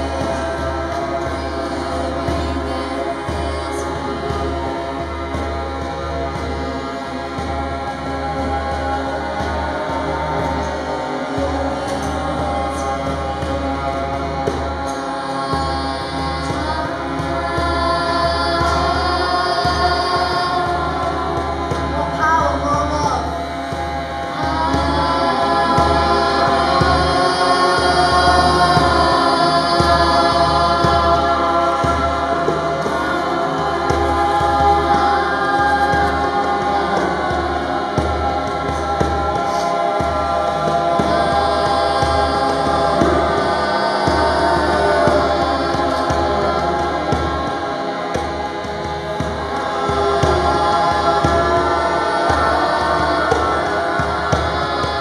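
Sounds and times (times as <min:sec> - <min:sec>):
low drone: 0:00.0 - 0:55.0
voices chanting in harmony: 0:00.0 - 0:55.0.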